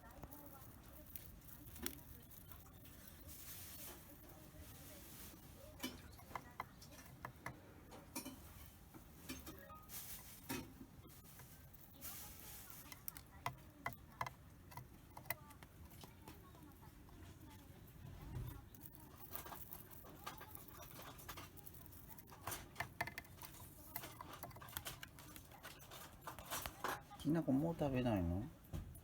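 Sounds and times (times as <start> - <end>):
bird pecking and husking seeds: 0.0 - 29.0.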